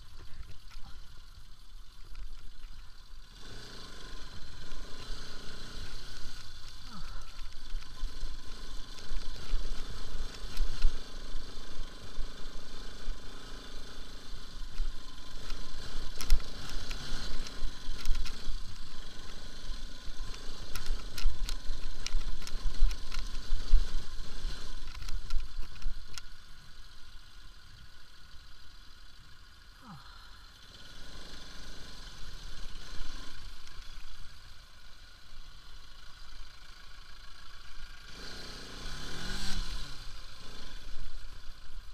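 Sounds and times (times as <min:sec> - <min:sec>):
motorcycle engine rumbling: 0:00.0 - 0:41.9
motorcycle rattling over bumps: 0:00.0 - 0:41.9.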